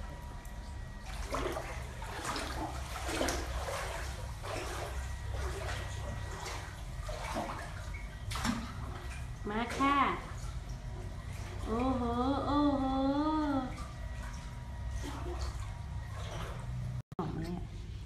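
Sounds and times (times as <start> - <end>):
water splashing in a pool: 0.0 - 17.0.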